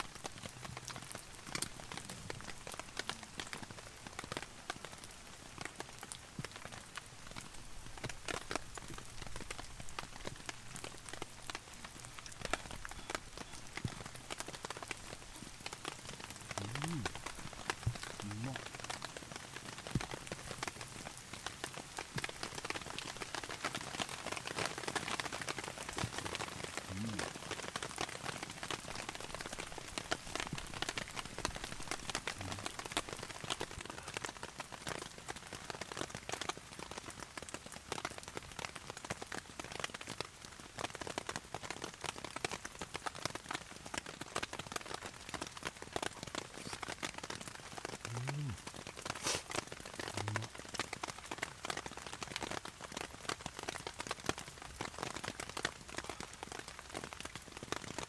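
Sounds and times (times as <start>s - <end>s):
heavy rain on tarp: 0.0s - 58.0s.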